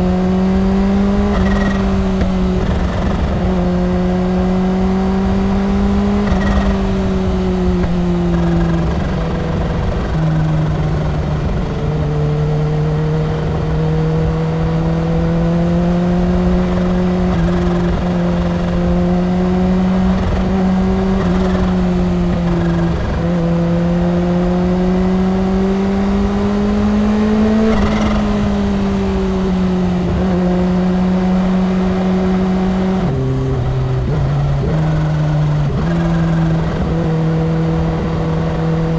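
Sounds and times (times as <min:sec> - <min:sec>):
motorcycle engine at highway speed: 0:00.0 - 0:38.9.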